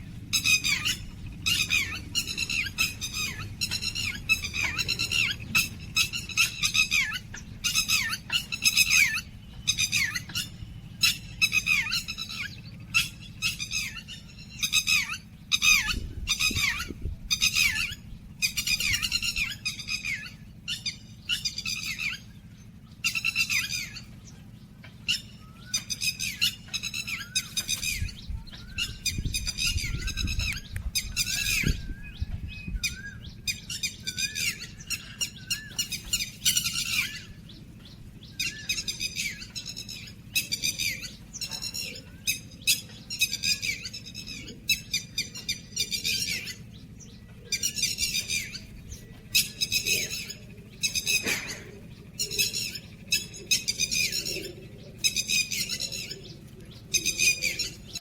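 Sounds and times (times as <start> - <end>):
songbirds chirping harshly: 0.0 - 58.0.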